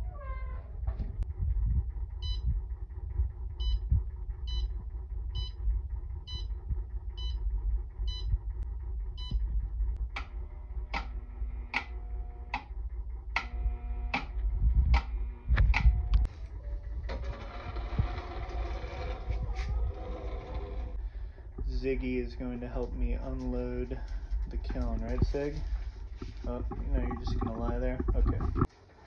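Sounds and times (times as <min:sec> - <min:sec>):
low rumble: 0:00.0 - 0:28.8.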